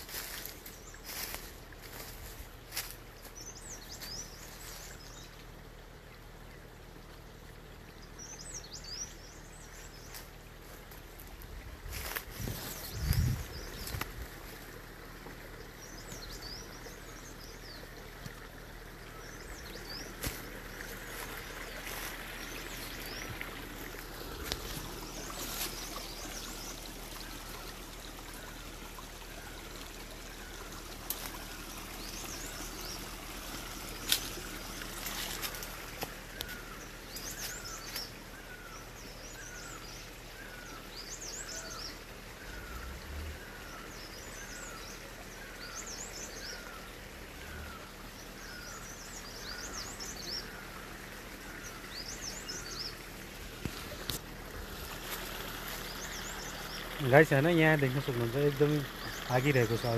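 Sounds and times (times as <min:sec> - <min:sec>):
birds calling: 0:00.0 - 0:59.9
steady background hiss: 0:00.0 - 0:59.9.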